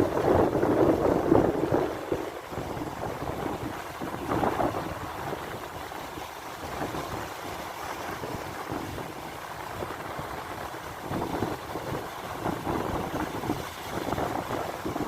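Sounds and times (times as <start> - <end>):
sea water washing: 0.0 - 15.0.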